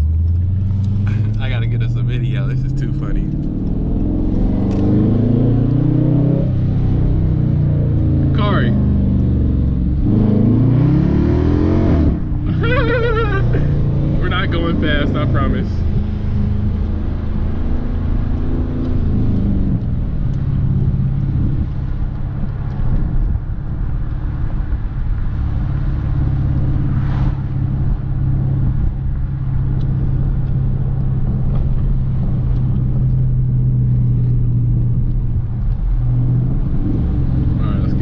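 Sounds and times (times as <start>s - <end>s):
exhaust droning: 0.0s - 38.0s.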